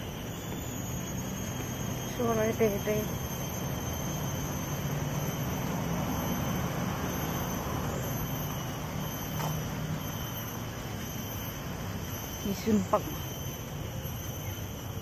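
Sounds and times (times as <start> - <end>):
distant road traffic rumble: 0.0 - 15.0
thin steady high tone: 0.0 - 15.0.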